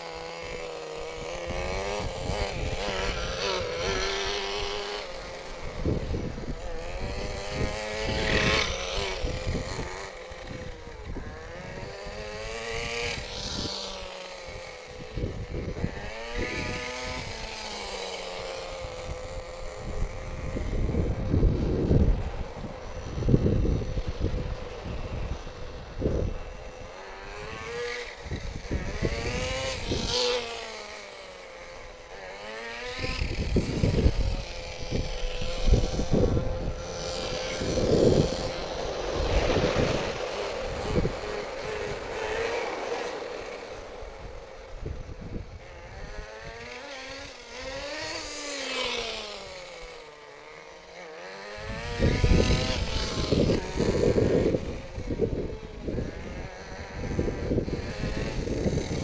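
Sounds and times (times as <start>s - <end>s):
small engine revving: 0.0s - 59.0s.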